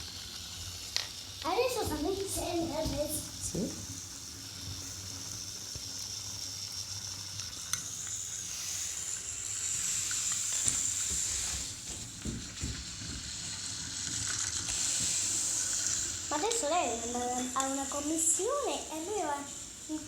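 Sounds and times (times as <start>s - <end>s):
toy train motor whine: 0.0s - 20.0s.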